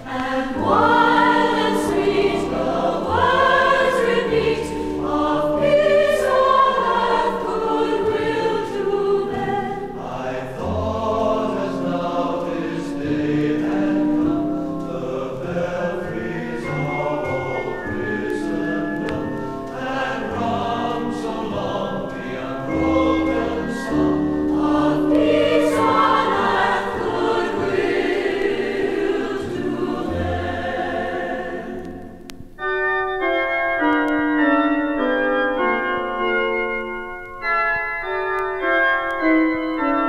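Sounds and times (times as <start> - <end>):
choir singing a carol: 0.0 - 32.6
orchestral accompaniment: 0.0 - 40.0.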